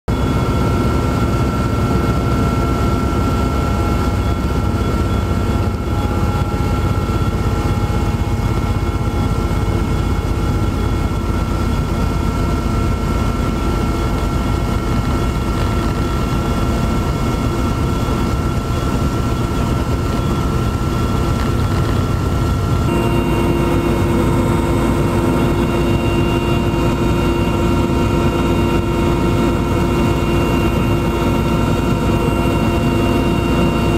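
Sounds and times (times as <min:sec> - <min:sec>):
aircraft engine and propeller drone: 0:00.1 - 0:33.9.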